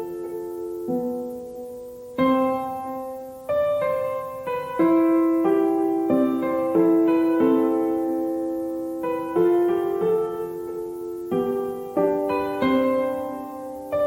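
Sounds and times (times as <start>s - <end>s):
slow solo piano chords: 0.0s - 14.0s.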